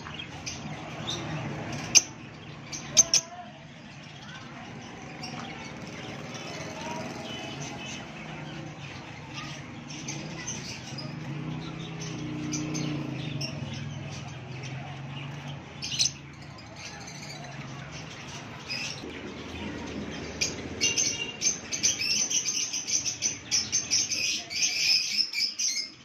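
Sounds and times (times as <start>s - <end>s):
birds chirping and squawking: 0.0s - 26.0s.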